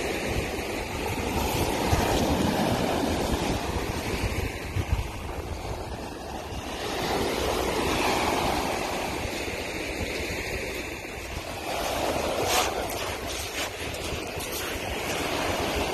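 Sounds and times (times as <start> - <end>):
surf breaking on sand beach: 0.0 - 15.9.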